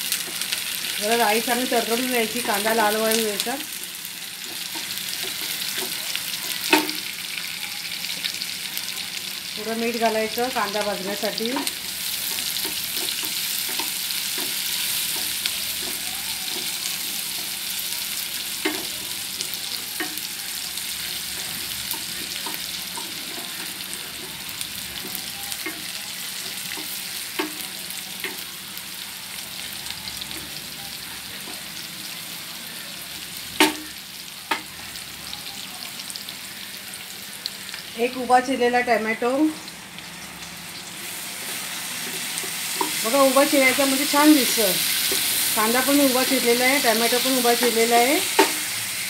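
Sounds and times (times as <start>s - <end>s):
onions sizzling in oil: 0.0s - 49.0s.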